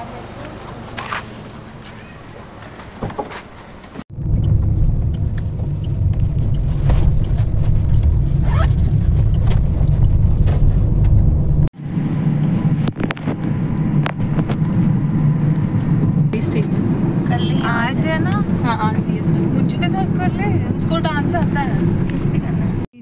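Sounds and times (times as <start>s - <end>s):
car road and engine rumble: 0.0s - 22.9s.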